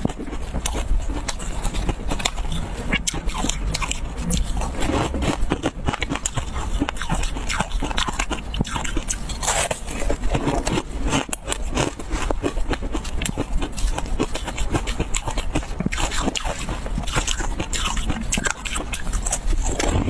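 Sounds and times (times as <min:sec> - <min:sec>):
crunching and chewing snack: 0:00.0 - 0:20.0
fingers scraping through crumbs: 0:00.0 - 0:20.0.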